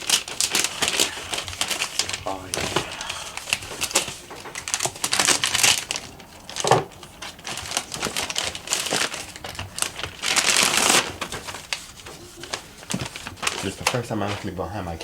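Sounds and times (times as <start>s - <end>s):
package wrapping crinkling: 0.0s - 14.9s.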